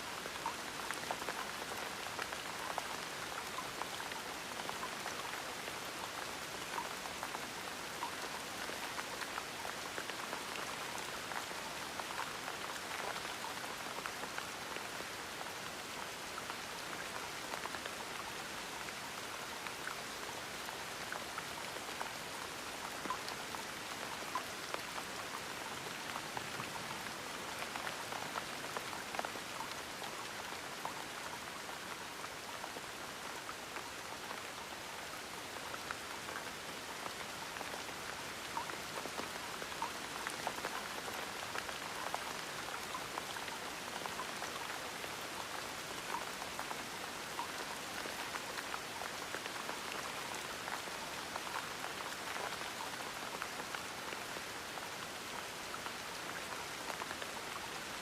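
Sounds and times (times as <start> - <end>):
gentle rain pattering: 0.0 - 58.0.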